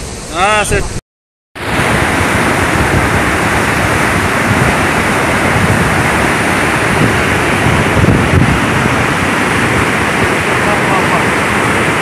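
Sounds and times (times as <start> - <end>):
river rushing over rocks: 1.6 - 12.0.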